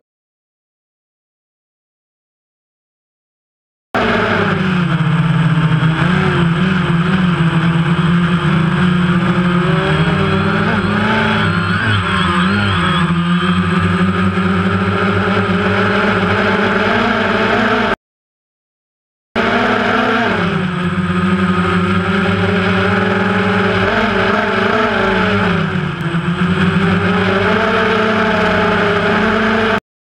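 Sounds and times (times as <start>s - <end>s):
drone propellers buzzing: 4.0s - 18.0s, 19.4s - 29.8s.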